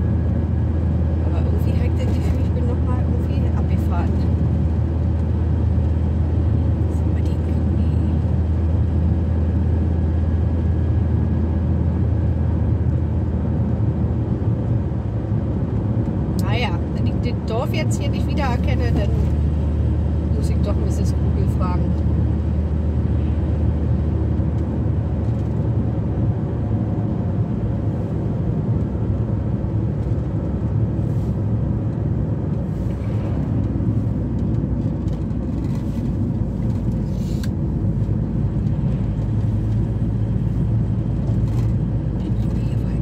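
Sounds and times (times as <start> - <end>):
engine and road rumble: 0.0 - 43.0.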